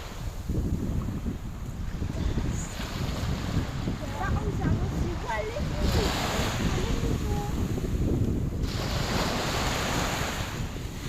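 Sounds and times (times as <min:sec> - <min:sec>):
waves washing onto shore: 0:00.0 - 0:11.0
wind buffeting microphone: 0:00.0 - 0:11.0.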